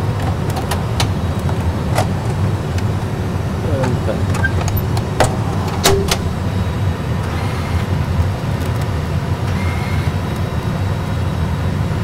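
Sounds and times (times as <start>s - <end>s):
aircraft engines idling: 0.0s - 12.0s.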